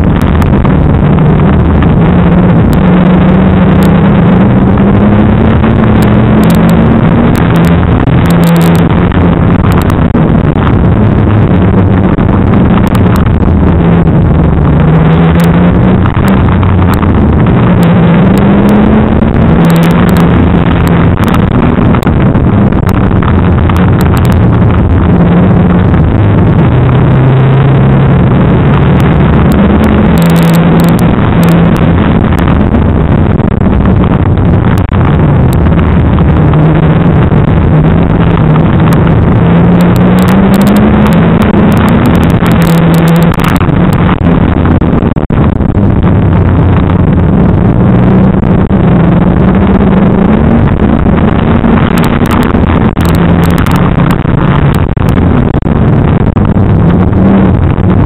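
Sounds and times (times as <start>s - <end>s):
racing car engine from inside cabin: 0.0s - 58.0s.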